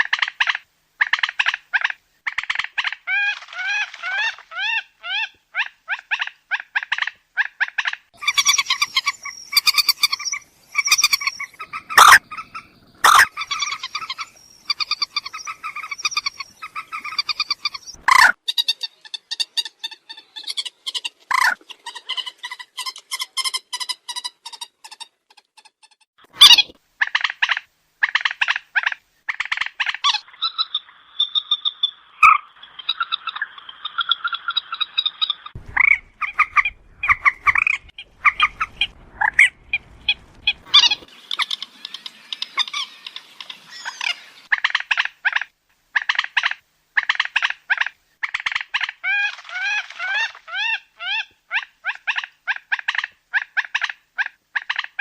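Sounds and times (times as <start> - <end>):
moorhen harsh clucking calls: 0.0 - 55.0.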